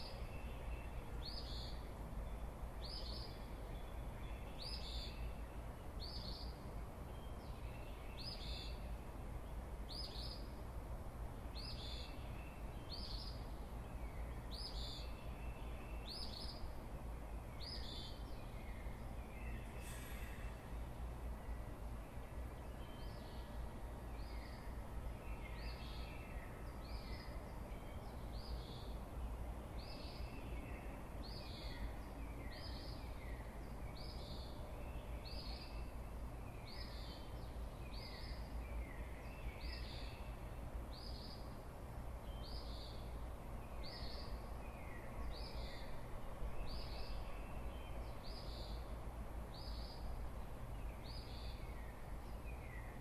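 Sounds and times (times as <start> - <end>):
light breeze rumble: 0.0 - 53.0.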